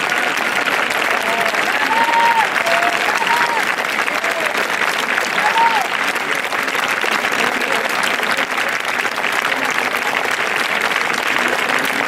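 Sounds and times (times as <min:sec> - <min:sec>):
large crowd applauding: 0:00.0 - 0:12.0.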